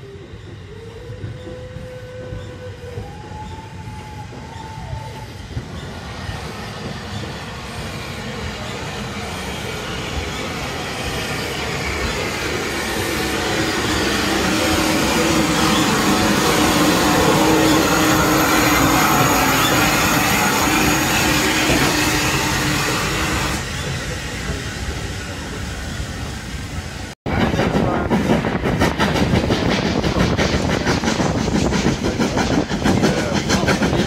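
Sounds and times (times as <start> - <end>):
steam locomotive passing: 0.0 - 34.0.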